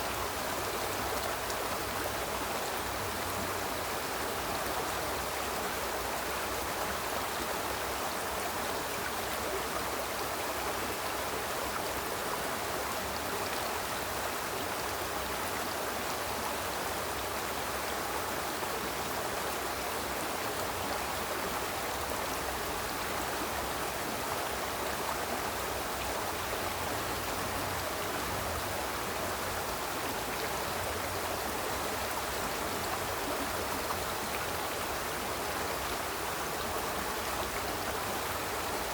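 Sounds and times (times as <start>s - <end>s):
river water rushing and babbling: 0.0s - 38.9s.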